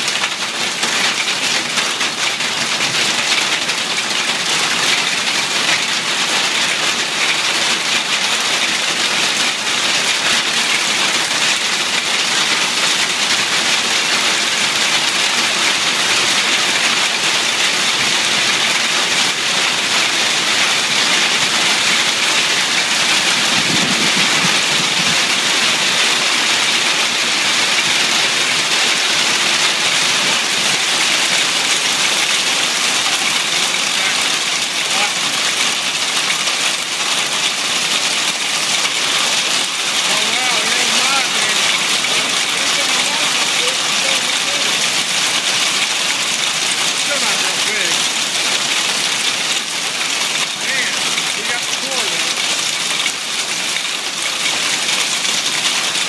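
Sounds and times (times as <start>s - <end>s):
hail and heavy rain on pavement: 0.0s - 56.0s.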